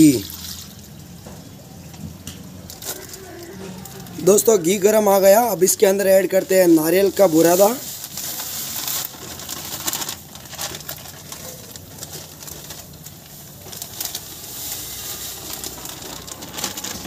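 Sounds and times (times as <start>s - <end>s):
plastic packets crackling: 2.4s - 17.0s
ghee sizzling: 2.6s - 17.0s.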